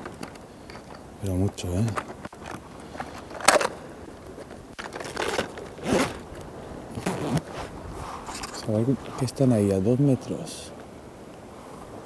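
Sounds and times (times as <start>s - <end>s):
scraping rustling handling noises: 0.0s - 9.8s.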